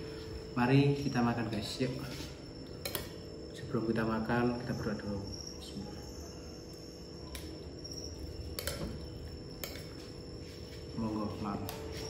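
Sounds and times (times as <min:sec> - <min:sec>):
faint high-pitched chirr: 0:00.0 - 0:12.0.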